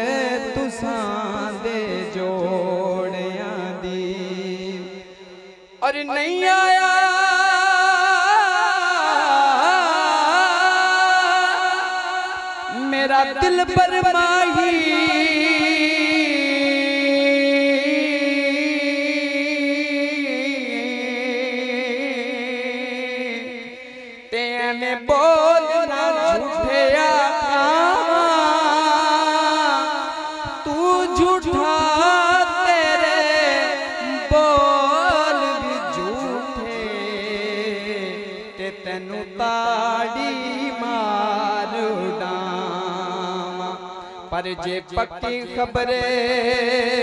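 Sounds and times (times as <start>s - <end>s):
man singing into a microphone: 0.0s - 47.0s.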